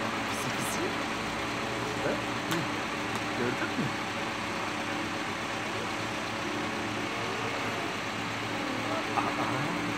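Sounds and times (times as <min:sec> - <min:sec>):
truck engine idling: 0:00.0 - 0:09.9.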